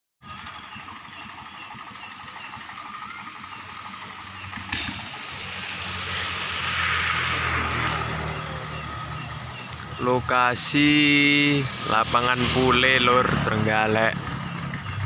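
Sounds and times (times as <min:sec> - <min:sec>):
engine hum: 0:00.2 - 0:15.0.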